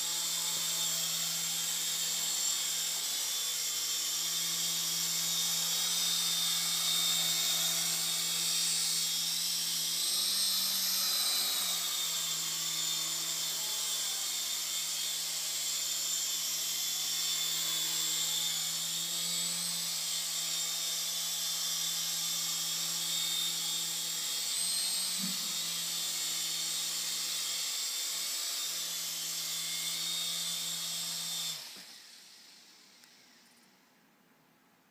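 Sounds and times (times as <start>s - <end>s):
toy helicopter motor whine: 0.0s - 33.7s.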